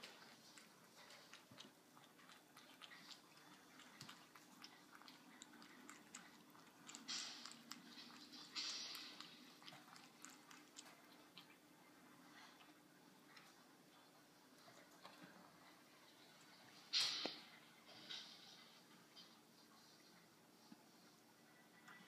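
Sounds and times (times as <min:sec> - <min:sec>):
cat lapping milk: 0:00.0 - 0:17.9.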